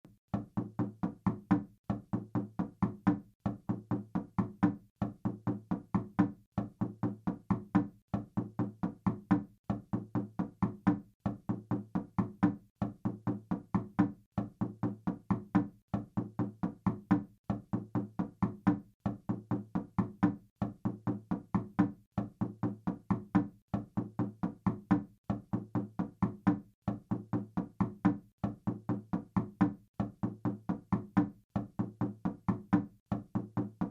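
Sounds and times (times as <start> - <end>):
knocking on a wooden door: 0.3 - 33.9.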